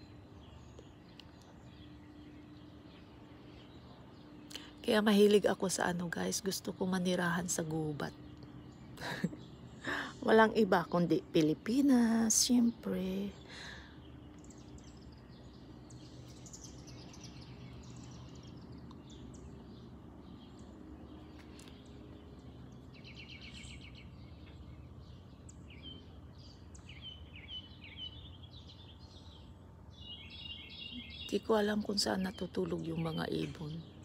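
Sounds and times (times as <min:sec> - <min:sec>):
low background hum: 0:00.0 - 0:34.0
songbirds singing: 0:00.0 - 0:34.0.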